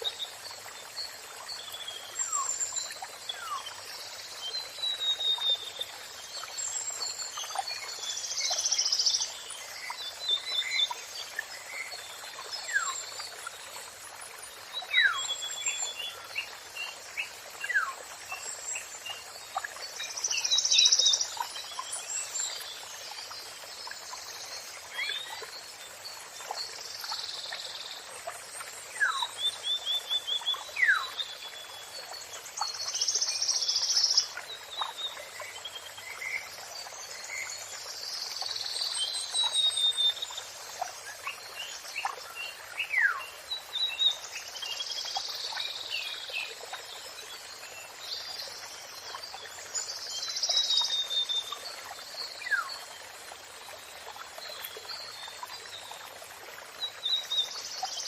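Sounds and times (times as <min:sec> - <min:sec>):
songbirds singing and trilling: 0:00.0 - 0:58.0.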